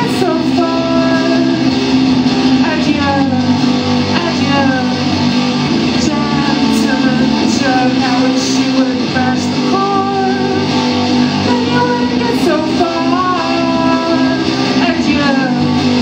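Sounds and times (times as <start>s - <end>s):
guitar accompaniment: 0.0s - 16.0s
person singing: 0.0s - 16.0s.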